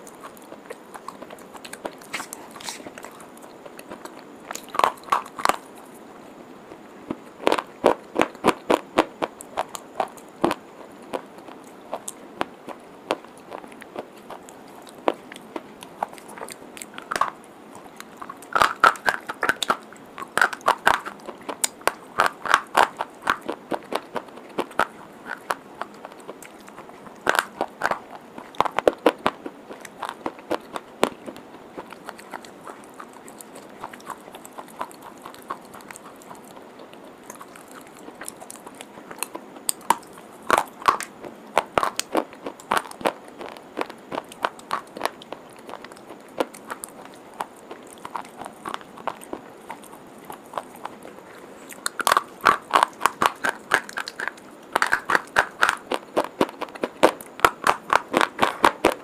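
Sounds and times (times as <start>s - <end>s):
crunching and chewing chalk: 0.0s - 59.0s.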